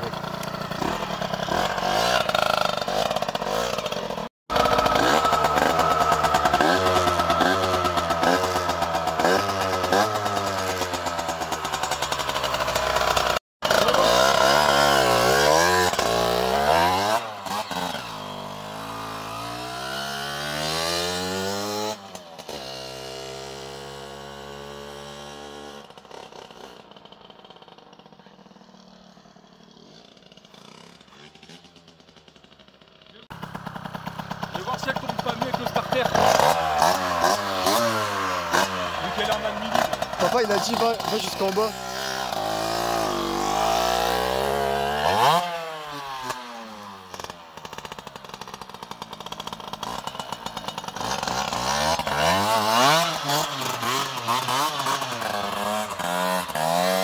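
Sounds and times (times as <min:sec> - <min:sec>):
motorbike engine revving: 0:00.0 - 0:57.0
motorbike pulling away: 0:00.0 - 0:57.0.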